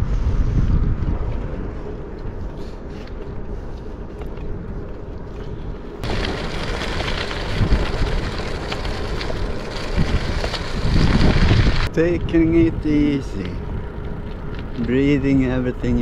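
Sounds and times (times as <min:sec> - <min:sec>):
wind buffeting microphone: 0:00.0 - 0:16.0
tyres rolling on asphalt: 0:01.0 - 0:16.0.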